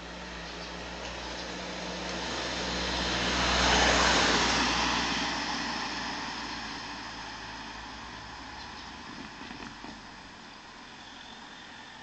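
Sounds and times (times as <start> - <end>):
car passing by: 0.0 - 12.0.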